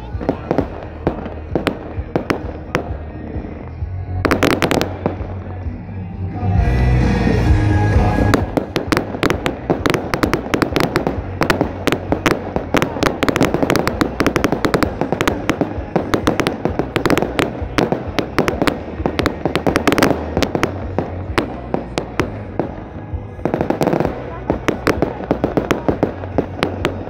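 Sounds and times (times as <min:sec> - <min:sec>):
fireworks crackling and popping: 0:00.0 - 0:05.8, 0:07.8 - 0:27.0.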